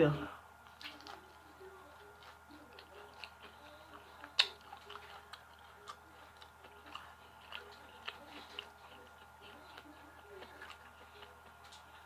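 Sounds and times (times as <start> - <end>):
person chewing crunchy food: 0.6 - 12.0.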